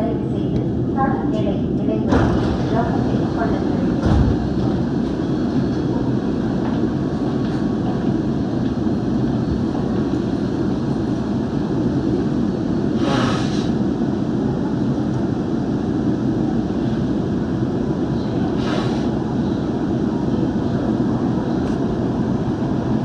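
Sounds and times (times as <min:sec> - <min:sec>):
metro train low hum: 0:00.0 - 0:23.0.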